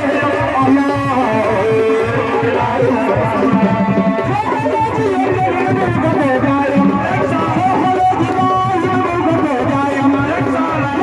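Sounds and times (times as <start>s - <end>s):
hand drums beating: 0.0s - 11.0s
person singing over loudspeakers: 0.0s - 11.0s.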